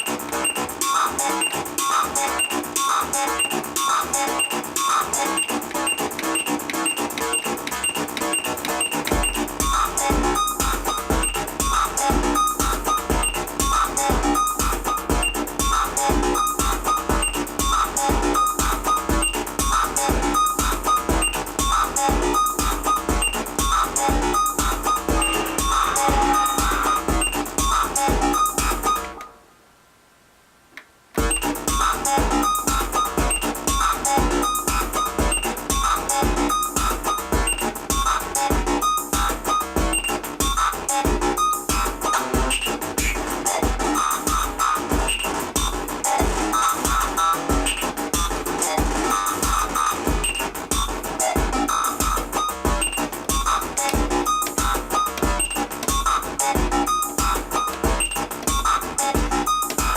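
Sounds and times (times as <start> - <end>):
drum machine kick and hi-hats: 0.0 - 29.2, 31.2 - 59.9
short repeated synthesizer notes: 0.0 - 29.3, 31.2 - 59.9.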